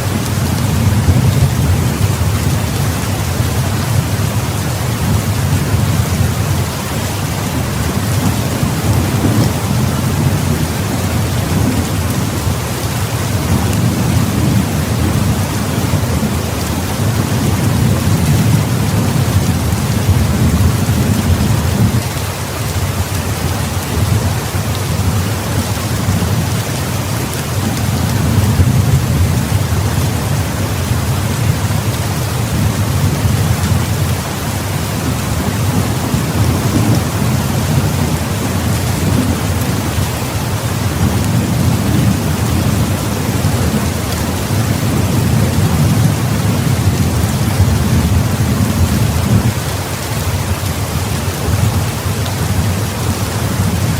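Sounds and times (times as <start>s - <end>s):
rolling thunder rumble: 0.0s - 22.3s, 22.9s - 49.7s
heavy rain falling: 0.0s - 53.9s.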